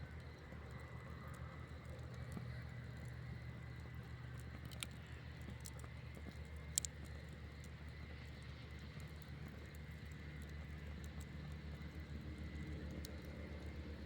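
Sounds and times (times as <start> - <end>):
campfire crackling: 0.0 - 14.0
fire popping: 0.1 - 14.0.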